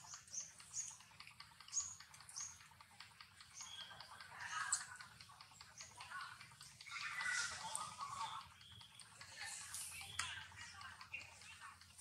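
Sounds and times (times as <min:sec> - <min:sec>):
soft clicks: 0:00.0 - 0:12.0.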